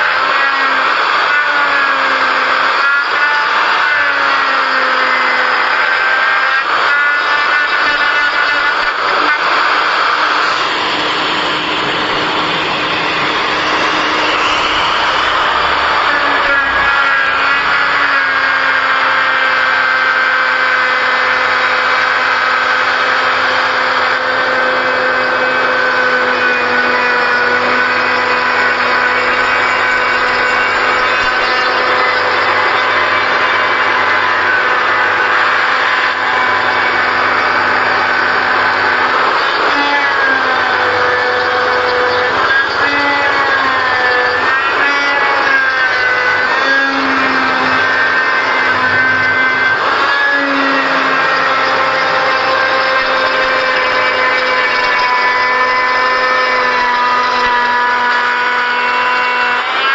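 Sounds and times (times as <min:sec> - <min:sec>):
electric carving tool motor whining: 0:00.0 - 0:59.9.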